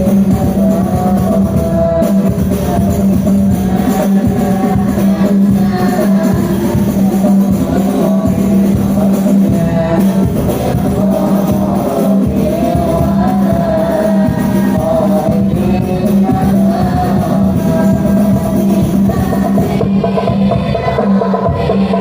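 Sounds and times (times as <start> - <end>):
child singing: 0.0 - 22.0
tambourine-like percussion: 0.0 - 22.0.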